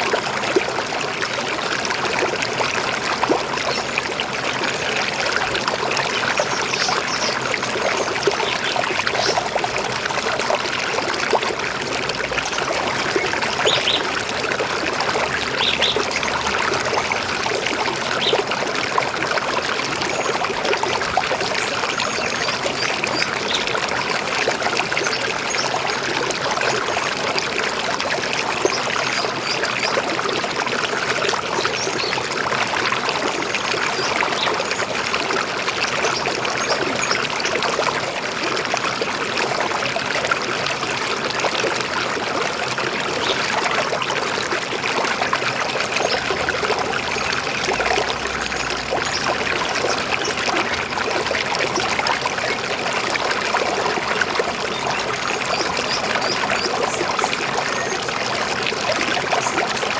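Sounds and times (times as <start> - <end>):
river water babbling: 0.0 - 59.9.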